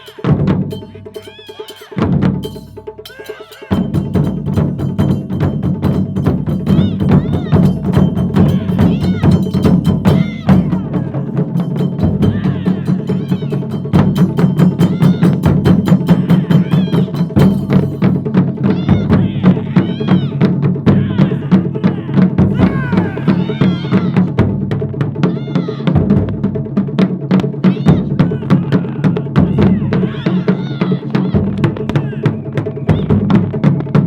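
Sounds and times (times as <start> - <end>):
taiko drum ensemble playing: 0.0 - 34.0.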